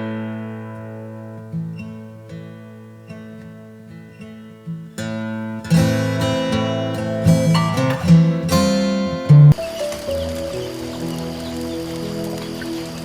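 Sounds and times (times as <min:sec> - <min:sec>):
acoustic guitar plucking and strumming: 0:00.0 - 0:13.0.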